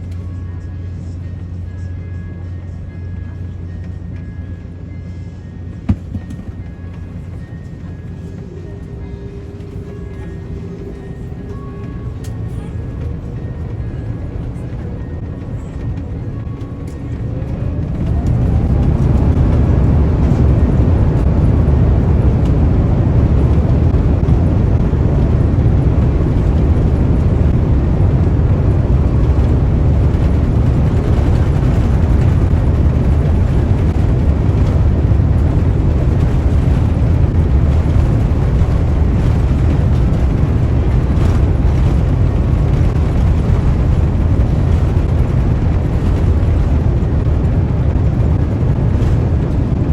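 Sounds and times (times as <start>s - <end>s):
jet engines roaring at takeoff: 0.0s - 49.9s.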